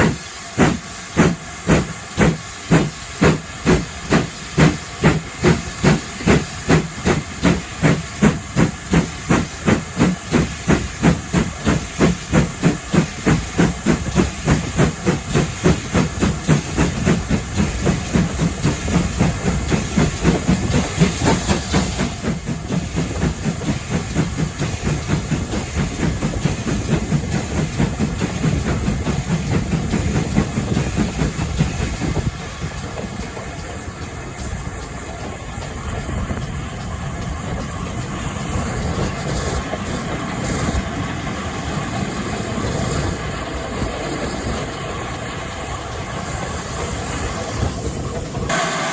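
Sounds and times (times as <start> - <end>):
steam hissing: 0.0 - 48.9
steam locomotive exhaust chuffs: 0.0 - 48.9.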